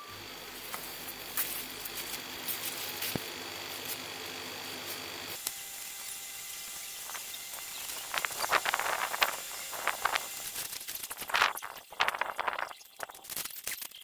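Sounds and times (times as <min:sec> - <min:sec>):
thin high whine: 0:00.0 - 0:12.7.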